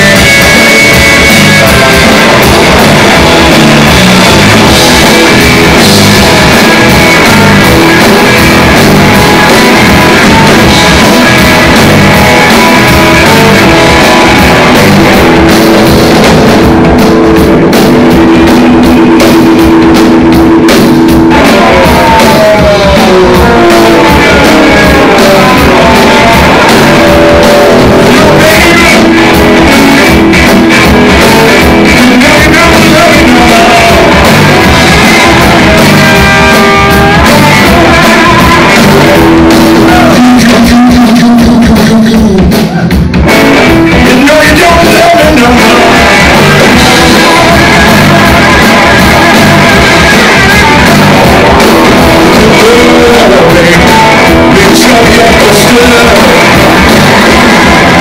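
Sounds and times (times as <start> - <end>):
live rock band: 0.0 - 58.0
person singing: 0.0 - 58.0.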